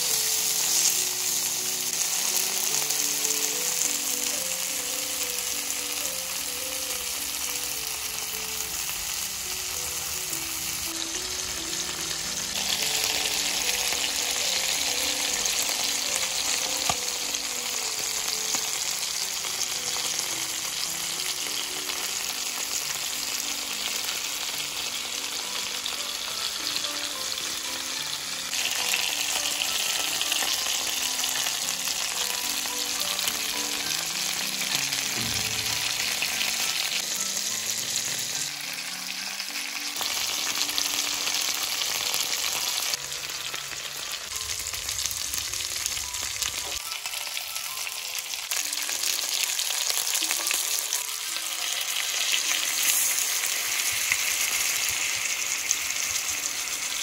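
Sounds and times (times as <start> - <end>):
chicken sizzling in oil: 0.0 - 57.0
faint background music: 0.0 - 57.0.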